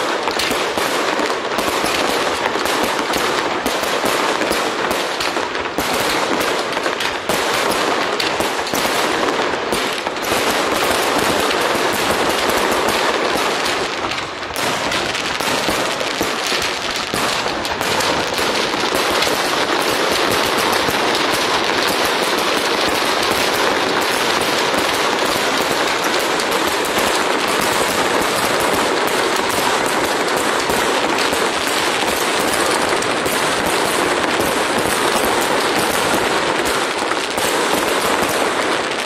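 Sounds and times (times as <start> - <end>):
fireworks crackling and popping: 0.0 - 39.0.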